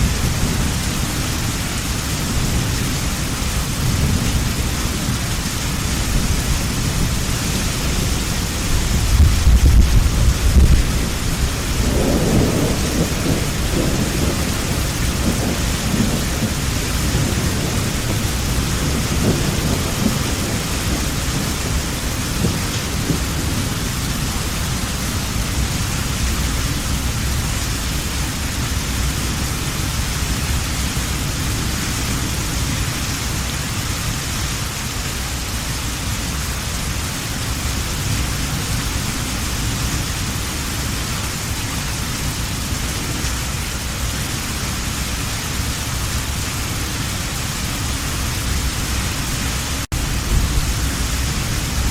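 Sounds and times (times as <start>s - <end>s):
low rumble of thunder: 0.0s - 34.2s, 36.4s - 51.9s
heavy rain falling: 0.0s - 51.9s.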